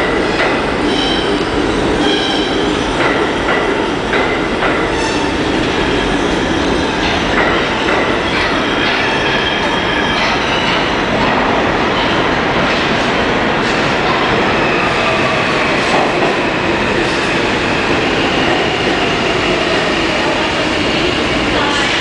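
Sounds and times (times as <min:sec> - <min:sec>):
steel wheels rushing on rail: 0:00.0 - 0:22.0.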